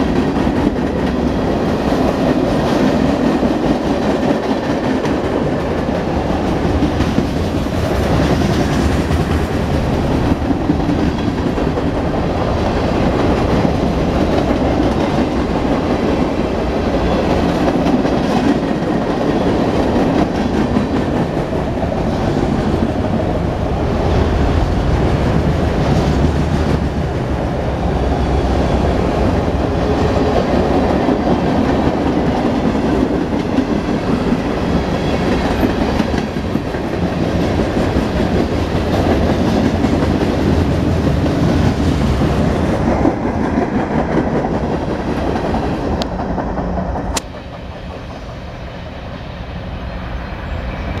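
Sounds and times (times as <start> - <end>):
clickety-clack over rail joints: 0.0 - 27.4, 29.0 - 48.5
train wheels rumbling on rails: 0.0 - 51.0.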